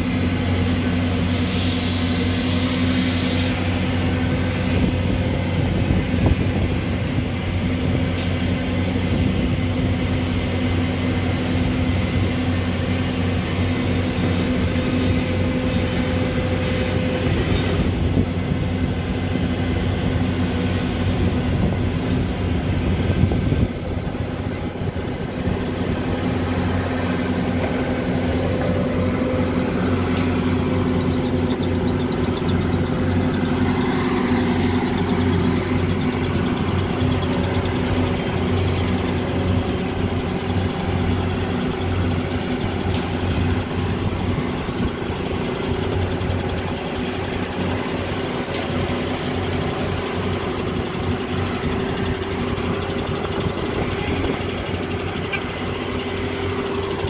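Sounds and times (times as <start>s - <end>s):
excavator diesel engine running: 0.0s - 57.0s
hydraulics working: 0.0s - 57.0s.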